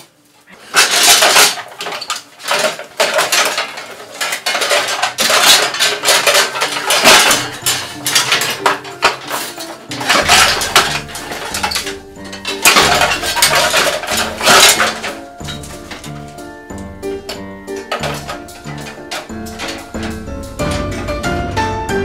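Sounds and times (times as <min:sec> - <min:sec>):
sheet-metal panels clanking and scraping: 0:00.6 - 0:21.7.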